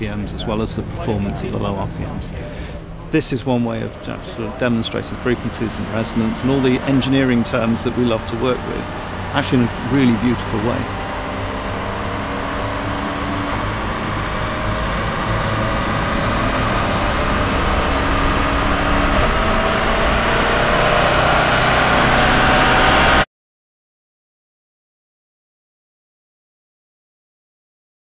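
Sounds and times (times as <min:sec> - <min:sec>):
car engine exhaust: 0:00.0 - 0:23.2.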